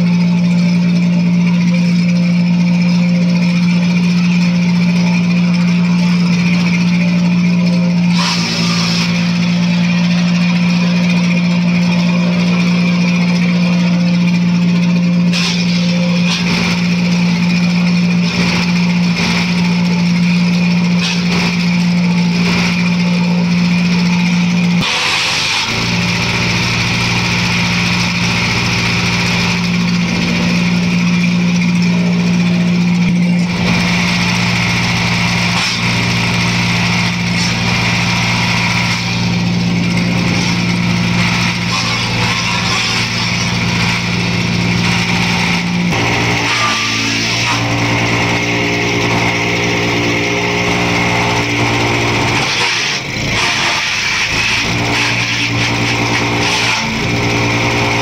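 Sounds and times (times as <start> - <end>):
wood chipper engine running: 0.0 - 58.0.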